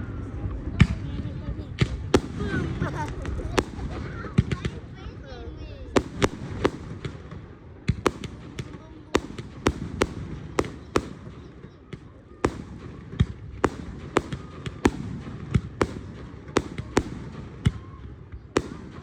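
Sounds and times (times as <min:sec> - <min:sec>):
fireworks banging: 0:01.8 - 0:05.3, 0:05.9 - 0:19.0.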